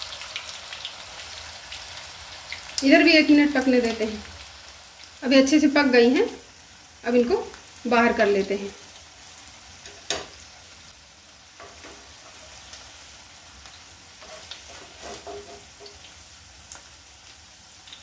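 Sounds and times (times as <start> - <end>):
oil sizzling in a pan: 0.0 - 18.0.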